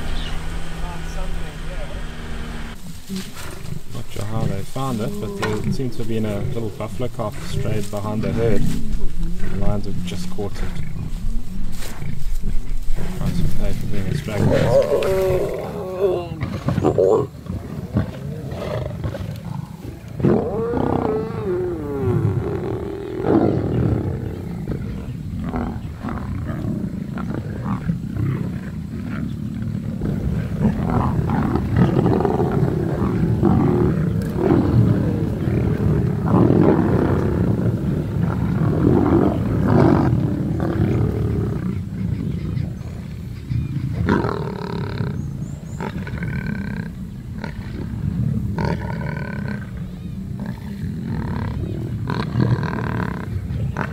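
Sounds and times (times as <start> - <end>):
lions growling and snarling: 0.0 - 53.9.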